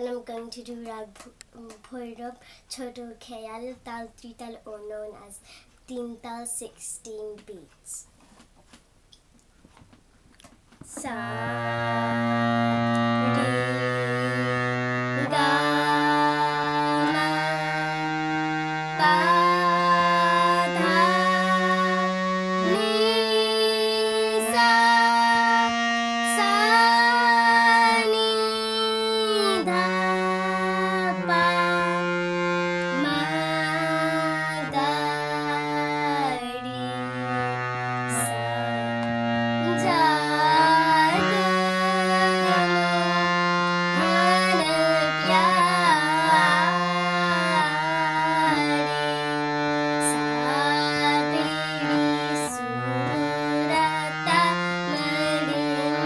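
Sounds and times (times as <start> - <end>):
girl singing: 0.0 - 8.1, 10.9 - 12.3, 13.1 - 14.6, 15.2 - 37.5, 38.1 - 38.4, 39.6 - 56.0
harmonium melody: 10.9 - 56.0.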